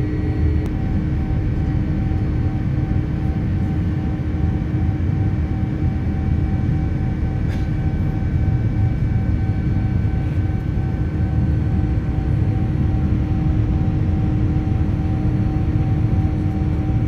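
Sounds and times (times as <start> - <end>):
aircraft engine and airflow roar: 0.0 - 17.0
steady cabin hums: 0.0 - 17.0.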